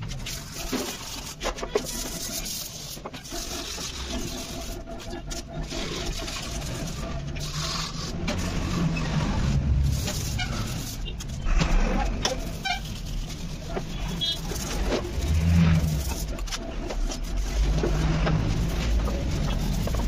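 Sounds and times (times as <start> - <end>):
sandpaper scratching plastic: 0.0 - 20.0.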